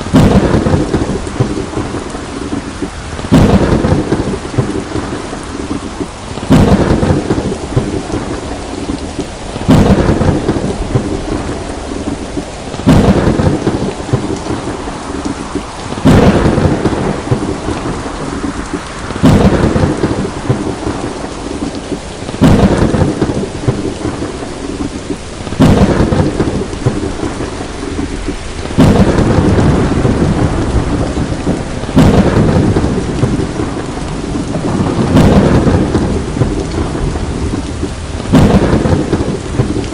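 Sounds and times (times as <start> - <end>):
heavy rain: 0.0 - 39.9
thunder crack and rumble: 0.0 - 39.9.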